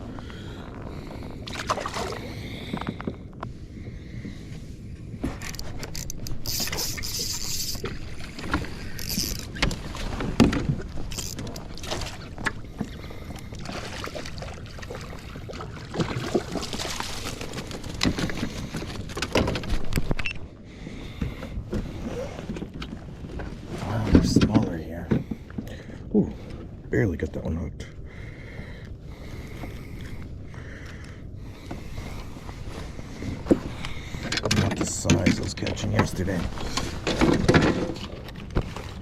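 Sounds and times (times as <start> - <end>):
wind and water noise: 0.0 - 39.0.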